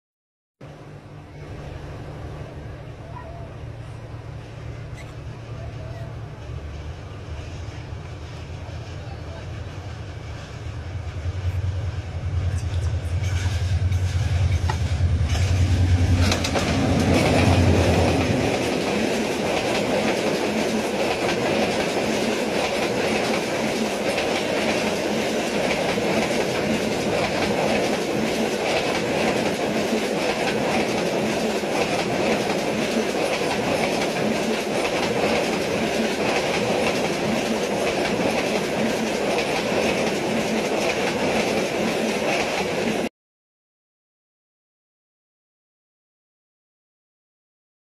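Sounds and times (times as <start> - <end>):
train coaches rattling: 1.6 - 43.1.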